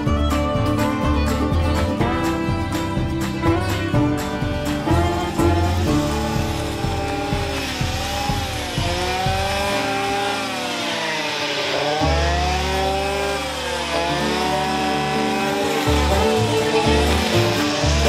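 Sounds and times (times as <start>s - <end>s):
brush cutter engine high revs: 0.0s - 18.0s.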